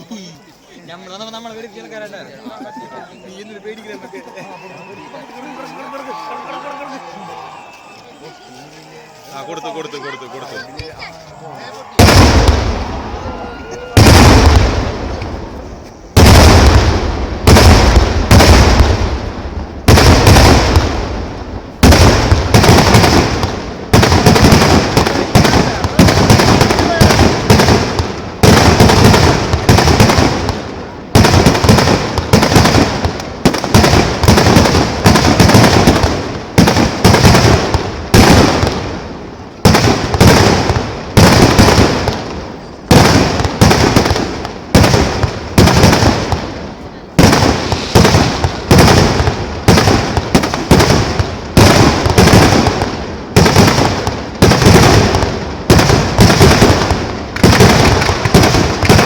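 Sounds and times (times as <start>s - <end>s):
fireworks explosions: 0.0s - 59.0s.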